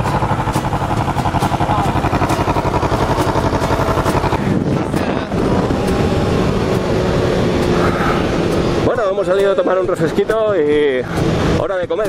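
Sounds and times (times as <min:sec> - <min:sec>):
wind noise: 0:00.0 - 0:11.9
motorcycle engine running: 0:00.0 - 0:12.0.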